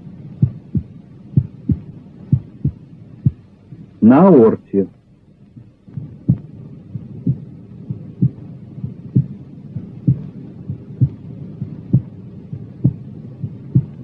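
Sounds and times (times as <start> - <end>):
heartbeat through stethoscope: 0.2 - 3.8, 5.6 - 14.0.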